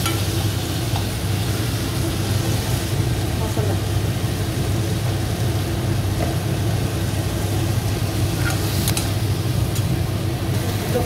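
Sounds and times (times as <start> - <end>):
masala cooking in a pan: 0.0 - 11.0.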